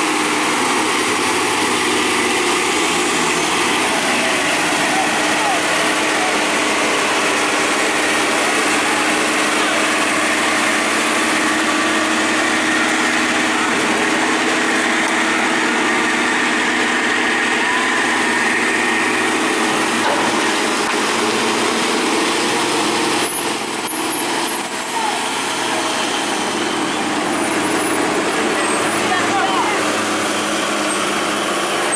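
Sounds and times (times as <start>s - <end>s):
road noise: 0.0s - 31.9s
truck engine running: 0.0s - 31.9s.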